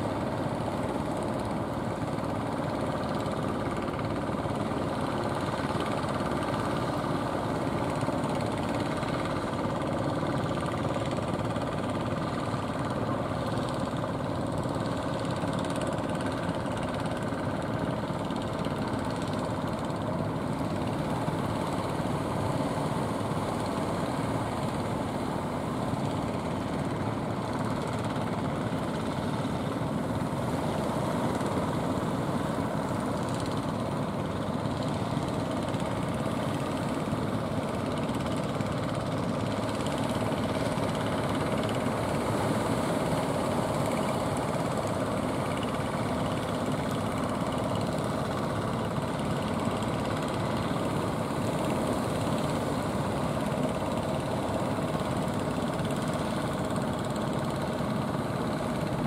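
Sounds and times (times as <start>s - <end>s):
boat engines running: 0.0s - 59.0s.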